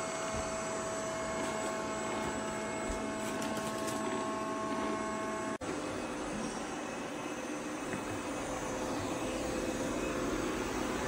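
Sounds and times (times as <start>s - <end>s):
robot vacuum cleaner whirring: 0.0s - 11.0s.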